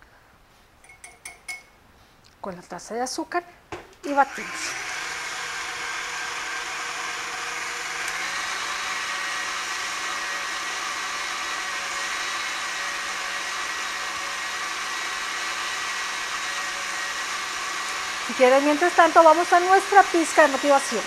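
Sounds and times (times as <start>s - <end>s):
electric stand mixer whine: 4.1s - 21.0s.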